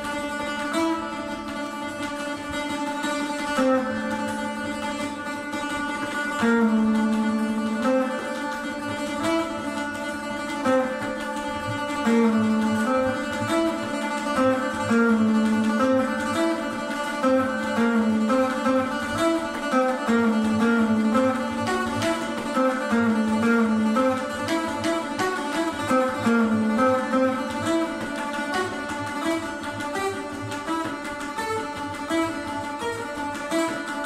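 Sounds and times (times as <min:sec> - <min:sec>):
tabla beat: 0:00.0 - 0:34.0.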